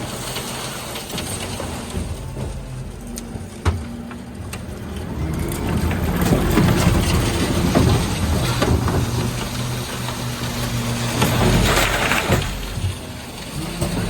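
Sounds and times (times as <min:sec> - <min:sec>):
rattling and clattering: 0:00.0 - 0:14.0
truck engine running: 0:00.0 - 0:14.0.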